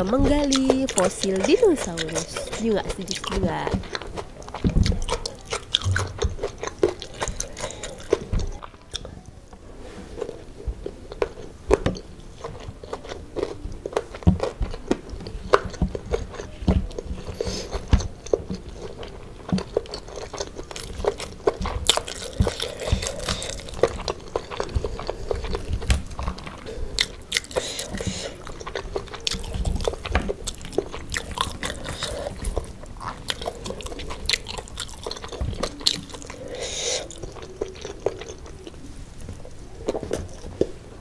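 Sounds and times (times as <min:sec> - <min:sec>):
chewing crispy fried chicken: 0:00.0 - 0:41.0.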